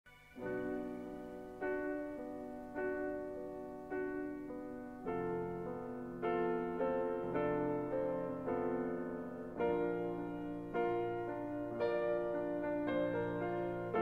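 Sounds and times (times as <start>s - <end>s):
slow piano chords: 0.1s - 14.0s.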